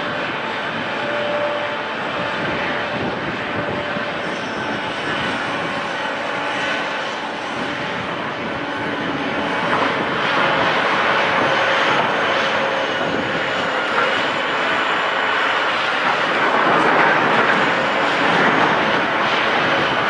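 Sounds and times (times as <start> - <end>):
heavy machinery running: 0.0 - 20.0.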